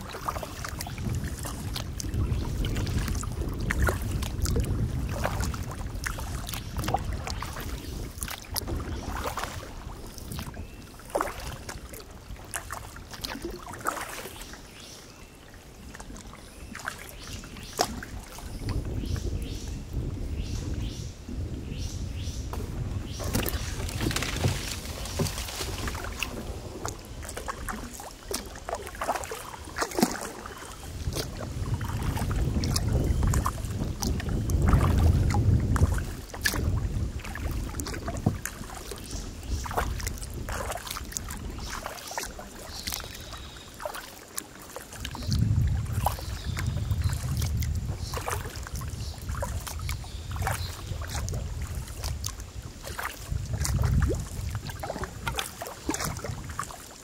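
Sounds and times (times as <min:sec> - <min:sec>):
paddle strokes splashing: 0:00.0 - 0:20.8, 0:22.4 - 0:57.0
wind rumble on microphone: 0:00.0 - 0:57.0.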